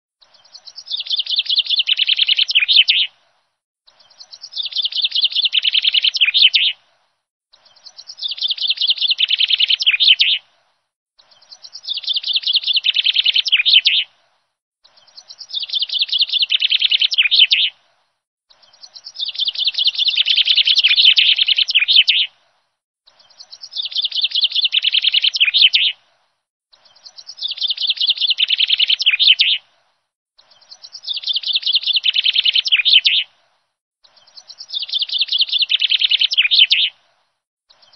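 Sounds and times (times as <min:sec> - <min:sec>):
songbird singing: 0:00.2 - 0:03.2, 0:03.9 - 0:06.8, 0:07.5 - 0:10.5, 0:11.2 - 0:14.1, 0:14.8 - 0:17.9, 0:18.5 - 0:22.4, 0:23.1 - 0:26.0, 0:26.7 - 0:29.7, 0:30.4 - 0:33.3, 0:34.0 - 0:37.0.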